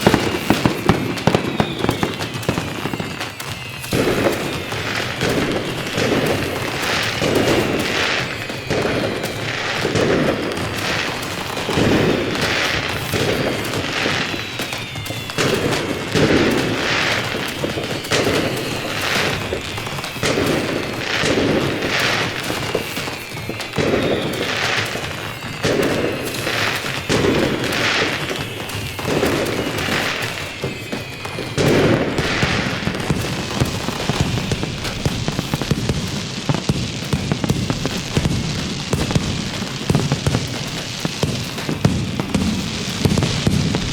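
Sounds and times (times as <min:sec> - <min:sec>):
fireworks bangs and crackles: 0:00.0 - 0:43.9
fireworks falling whistles: 0:00.0 - 0:43.9.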